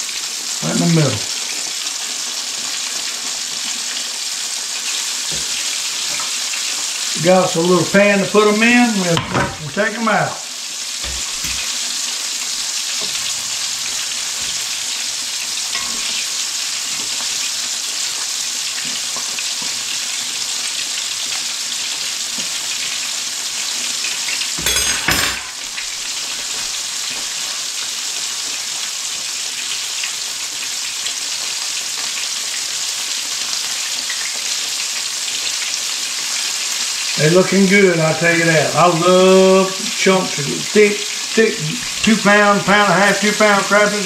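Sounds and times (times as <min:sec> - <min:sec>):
fish deep-frying sizzle: 0:00.0 - 0:44.0.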